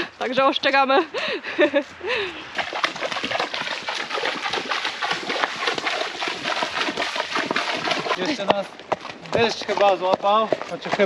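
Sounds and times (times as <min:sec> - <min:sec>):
hooves splashing through mud: 0:01.8 - 0:11.0.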